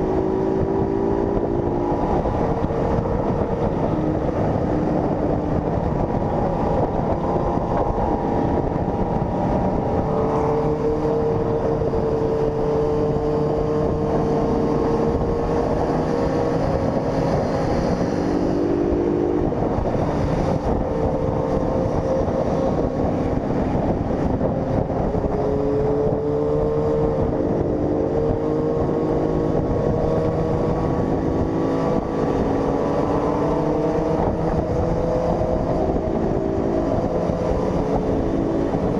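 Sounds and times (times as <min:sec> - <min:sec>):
wind rush: 0:00.0 - 0:38.9.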